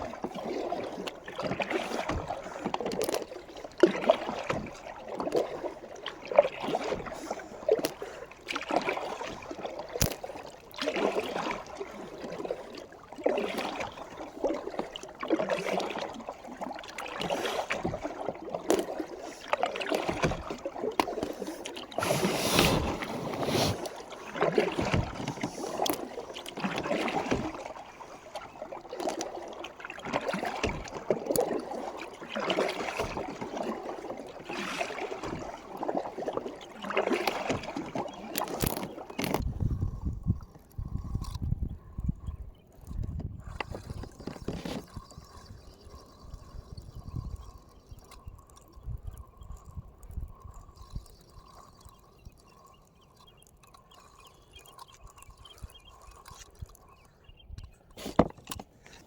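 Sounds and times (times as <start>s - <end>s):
paddle splashing water: 0.0s - 59.0s.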